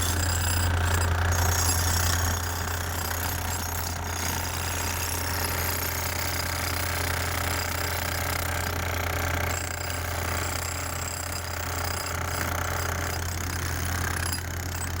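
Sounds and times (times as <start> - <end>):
jackhammer hammering: 0.0 - 15.0.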